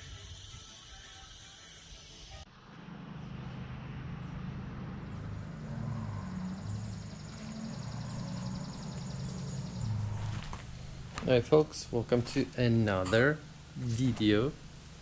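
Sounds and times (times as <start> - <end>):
four-cylinder engine running: 2.6 - 15.0.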